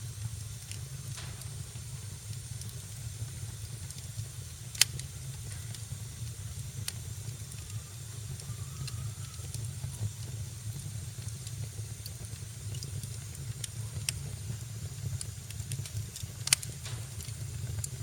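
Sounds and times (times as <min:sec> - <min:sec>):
fire rumbling and hissing: 0:00.0 - 0:18.0
sharp pops of burning wood: 0:00.2 - 0:18.0.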